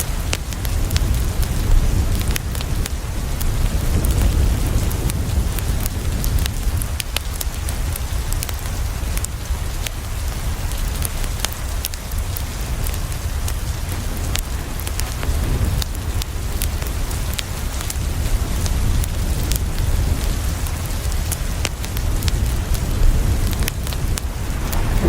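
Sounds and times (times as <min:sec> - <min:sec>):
rain on a window: 0:00.0 - 0:25.0
wood fire crackling: 0:00.0 - 0:25.0.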